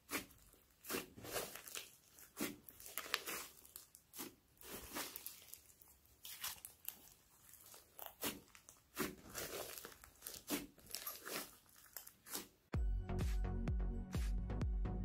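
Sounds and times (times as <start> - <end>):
slime crackling and popping: 0.0 - 12.7.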